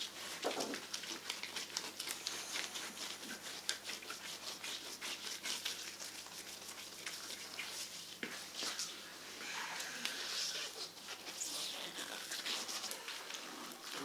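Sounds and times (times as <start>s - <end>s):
wet rubbing and squishing: 0.0s - 14.0s.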